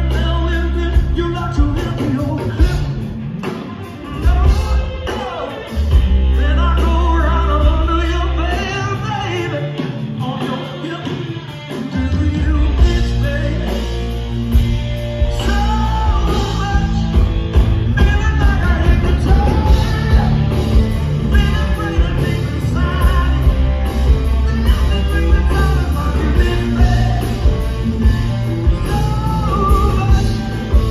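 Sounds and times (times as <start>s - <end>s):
live rock band playing: 0.0s - 30.9s
person singing: 0.0s - 30.9s.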